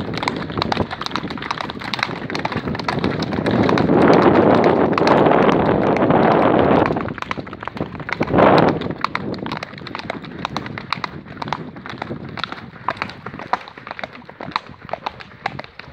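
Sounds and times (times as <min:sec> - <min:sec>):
horses' hooves on dirt: 0:00.0 - 0:15.9.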